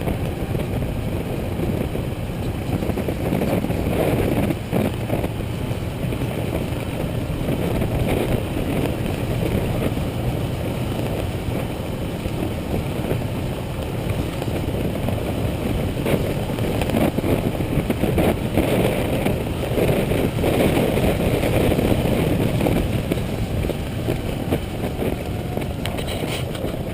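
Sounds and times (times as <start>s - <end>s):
motorcycle engine running: 0.0s - 26.9s
road noise: 0.0s - 26.9s.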